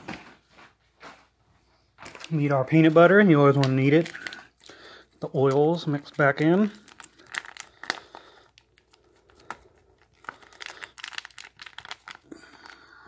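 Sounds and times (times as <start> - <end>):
foil packet crinkling: 2.0 - 13.0.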